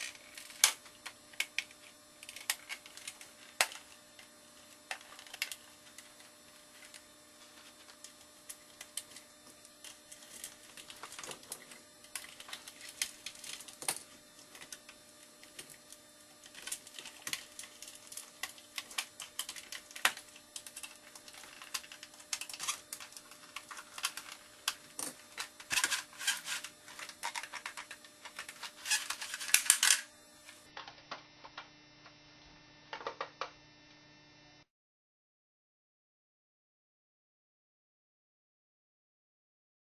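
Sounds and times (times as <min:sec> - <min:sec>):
faint steady hum: 0:00.0 - 0:34.7.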